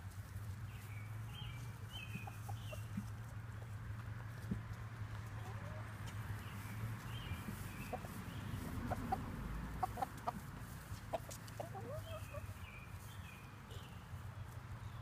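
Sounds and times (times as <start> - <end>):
chickens clucking: 0.8 - 14.3.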